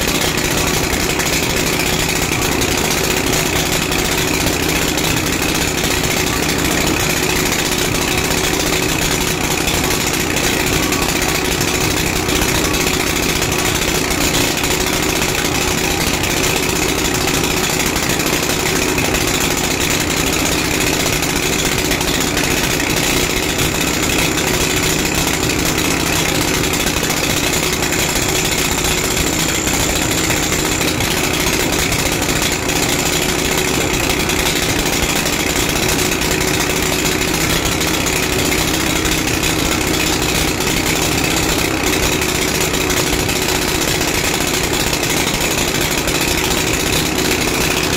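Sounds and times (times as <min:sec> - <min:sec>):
concrete mixer engine running: 0:00.0 - 0:47.9.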